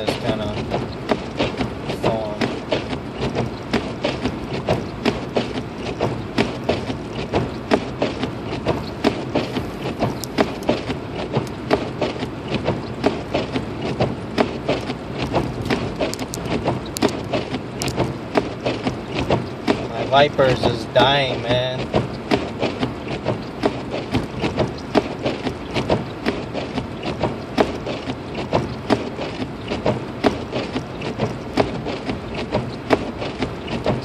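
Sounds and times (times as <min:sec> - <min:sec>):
road and engine hum: 0:00.0 - 0:34.0.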